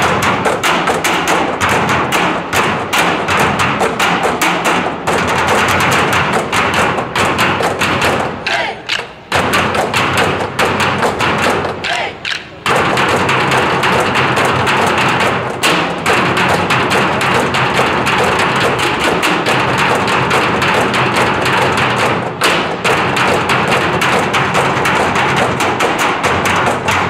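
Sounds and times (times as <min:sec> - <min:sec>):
drumming on steel drums and barrels: 0:00.0 - 0:27.0.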